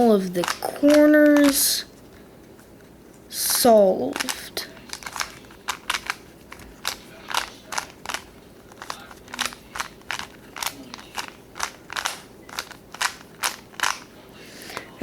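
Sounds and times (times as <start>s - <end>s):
puzzle cube clacking: 0.0s - 1.8s, 3.4s - 14.1s.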